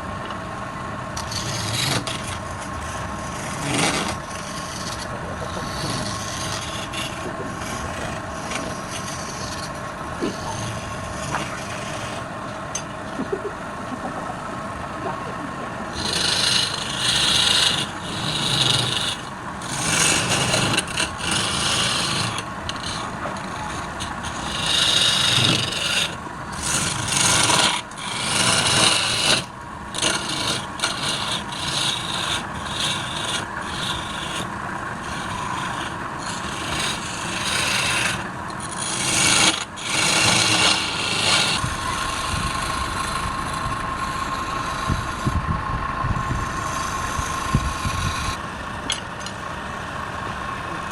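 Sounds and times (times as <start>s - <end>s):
lathe motor hum: 0.0s - 50.9s
tool scraping wood on lathe: 1.2s - 13.4s, 15.9s - 45.4s, 46.2s - 49.5s.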